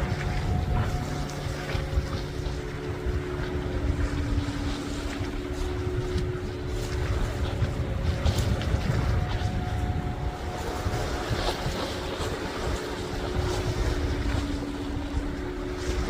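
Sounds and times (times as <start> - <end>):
motorboat engine humming: 0.0 - 16.0
wind rumbling on microphone: 0.0 - 16.0.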